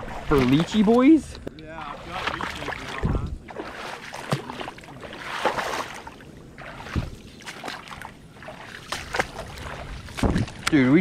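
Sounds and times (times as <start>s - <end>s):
footsteps squelching through mud: 0.0s - 11.0s.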